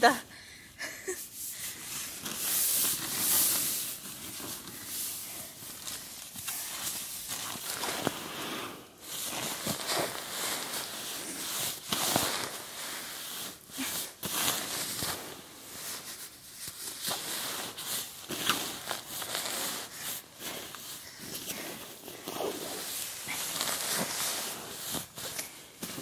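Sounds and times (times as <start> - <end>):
sleeping bag rustling: 1.4 - 26.0
nylon crackles: 2.2 - 26.0.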